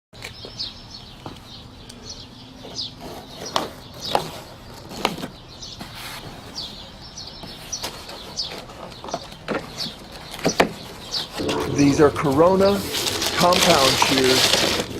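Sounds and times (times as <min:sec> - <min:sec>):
birds chirping: 0:00.2 - 0:14.9.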